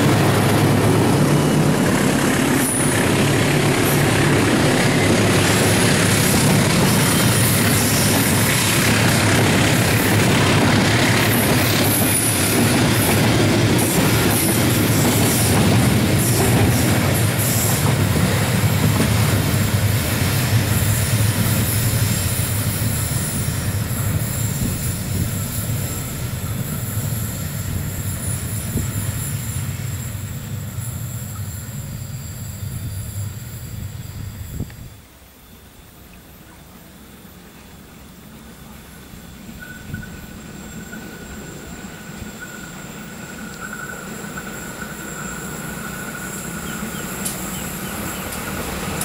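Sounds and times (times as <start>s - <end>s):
train wheels rumbling and clattering: 0.0s - 34.9s, 39.4s - 49.0s.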